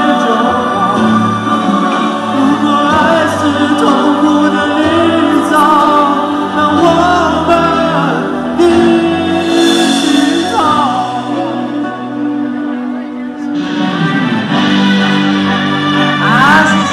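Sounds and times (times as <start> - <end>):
man singing a pop ballad: 0.0 - 13.0, 16.1 - 16.9
instrumental accompaniment: 0.0 - 16.9.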